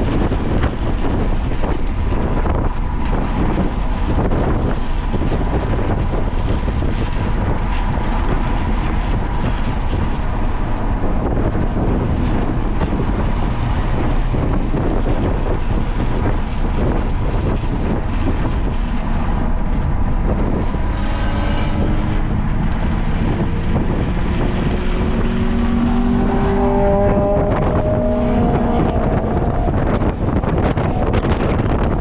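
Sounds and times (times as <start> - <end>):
heavy wind buffeting: 0.0 - 32.0
vehicle engine accelerating: 0.0 - 32.0.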